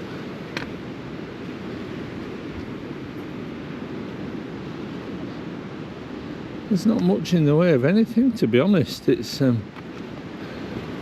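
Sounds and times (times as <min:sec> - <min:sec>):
sea surf on rocky shore: 0:00.0 - 0:11.0.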